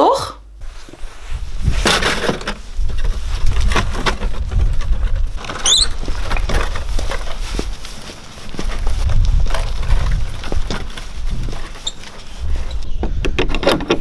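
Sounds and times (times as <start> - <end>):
metal wheelbarrow on paving stones: 1.6 - 14.0.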